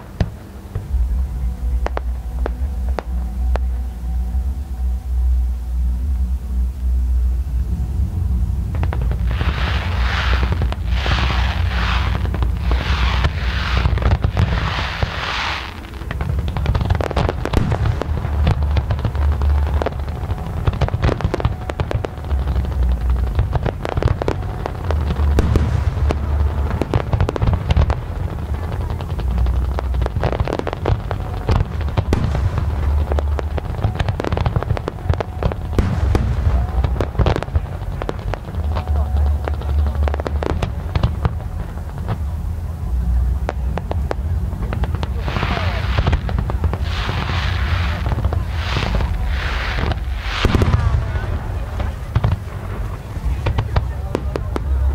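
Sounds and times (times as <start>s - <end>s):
fireworks crackling and popping: 0.0s - 4.4s, 8.0s - 54.9s
deep booming rumble: 0.0s - 54.9s
fireworks hissing bursts: 8.7s - 42.7s, 43.4s - 54.9s.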